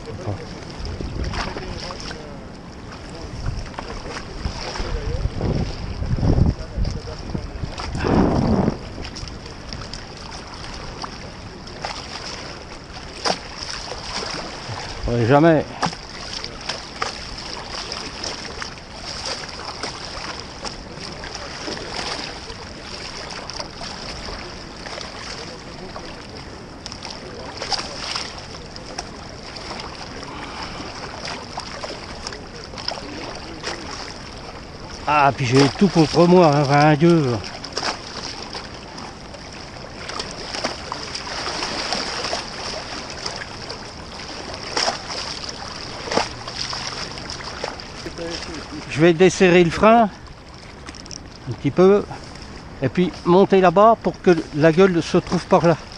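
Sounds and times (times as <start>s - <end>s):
small clicks and splashes: 0.0s - 5.8s, 9.0s - 52.4s
river water rushing: 0.0s - 55.9s.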